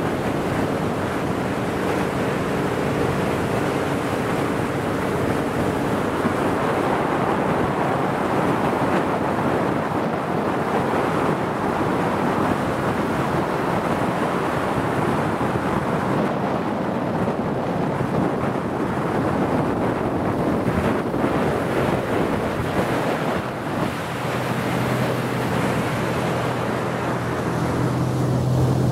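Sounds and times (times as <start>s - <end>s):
wind and water rushing: 0.0s - 28.9s
wind buffeting microphone: 0.0s - 28.9s.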